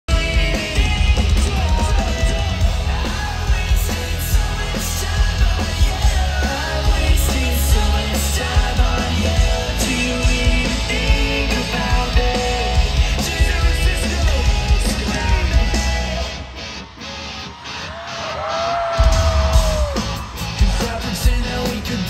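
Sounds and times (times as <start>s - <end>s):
man singing: 0.0s - 16.6s, 20.2s - 22.0s
bass guitar: 0.0s - 18.1s, 19.0s - 22.0s
drums: 0.0s - 22.0s
electric guitars: 0.0s - 22.0s.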